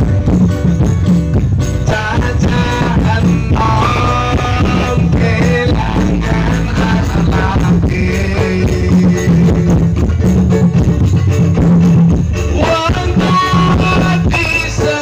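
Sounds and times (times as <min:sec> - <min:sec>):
live band music over speakers: 0:00.0 - 0:15.0.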